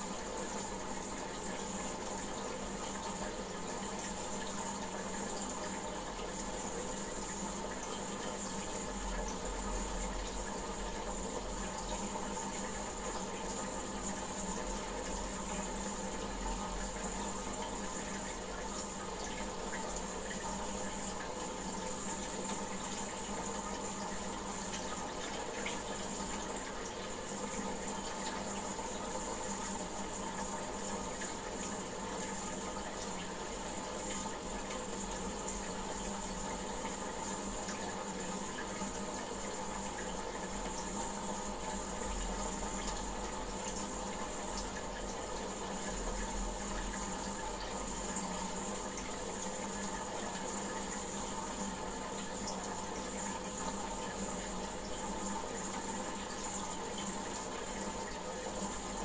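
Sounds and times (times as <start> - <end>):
aquarium water running: 0.0 - 59.0
faint steady hum: 0.0 - 59.0.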